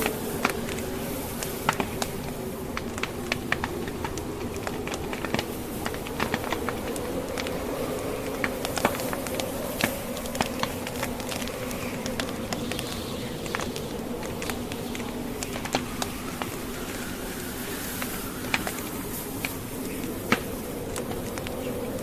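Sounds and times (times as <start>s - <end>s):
blizzard wind howling: 0.0s - 22.0s
wood fire crackling and popping: 0.0s - 22.0s.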